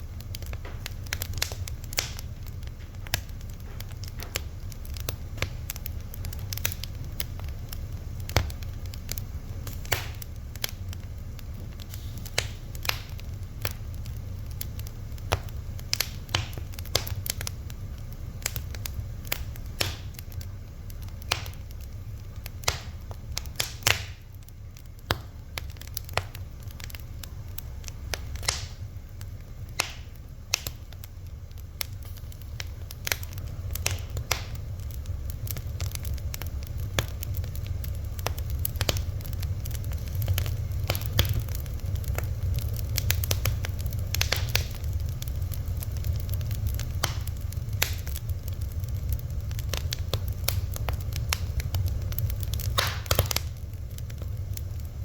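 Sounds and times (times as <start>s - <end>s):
low rumble of flames: 0.0s - 55.0s
wood fire crackling: 0.0s - 55.0s.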